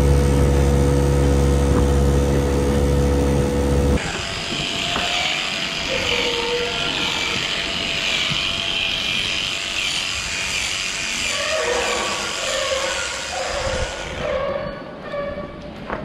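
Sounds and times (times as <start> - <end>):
electric clippers buzzing: 0.0 - 14.2.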